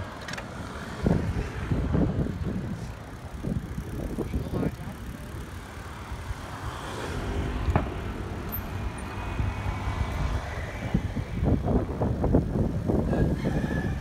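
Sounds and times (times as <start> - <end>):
road noise: 0.0 - 14.0
wind rumbling on microphone: 0.0 - 14.0.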